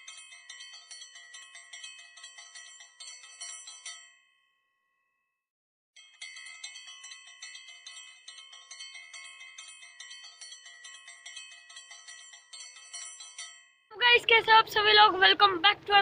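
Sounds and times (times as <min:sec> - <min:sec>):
small bells ringing: 0:00.0 - 0:05.2, 0:06.0 - 0:14.2.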